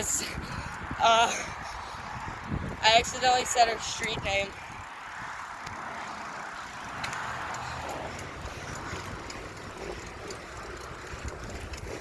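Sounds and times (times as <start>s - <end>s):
bicycle clicks and rattles: 0.0s - 12.0s
road and wind noise: 0.0s - 12.0s.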